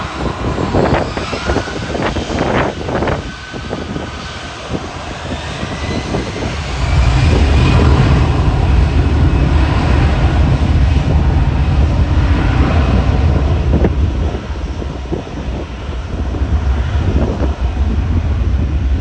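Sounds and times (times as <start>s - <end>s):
faint engine whine: 0.0s - 19.0s
jet engines rumbling: 0.0s - 19.0s.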